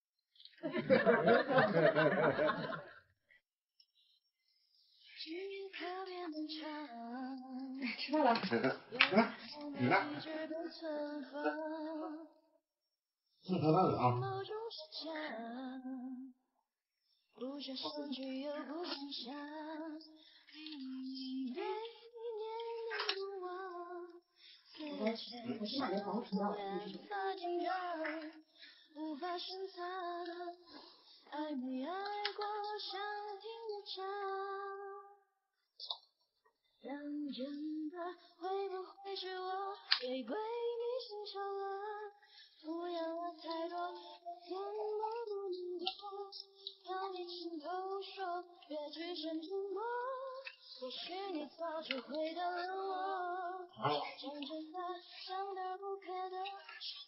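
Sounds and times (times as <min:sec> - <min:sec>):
woman singing pop song: 0:05.1 - 0:12.3, 0:13.9 - 0:16.3, 0:17.4 - 0:35.1, 0:36.8 - 0:57.0.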